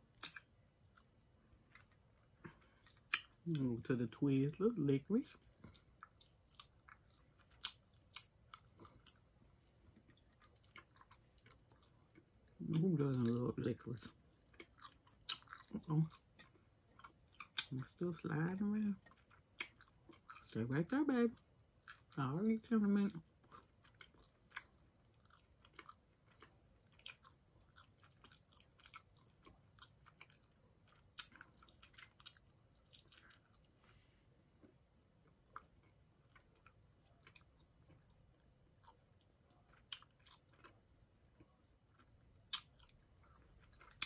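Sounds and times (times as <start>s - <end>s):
person chewing candy: 0.0s - 3.6s, 5.3s - 18.2s, 18.8s - 44.0s.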